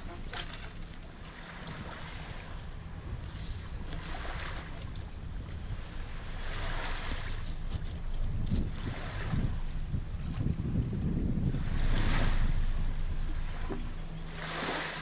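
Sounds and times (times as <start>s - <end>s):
small waves lapping: 0.0s - 15.0s
wind rumbling on microphone: 0.0s - 15.0s.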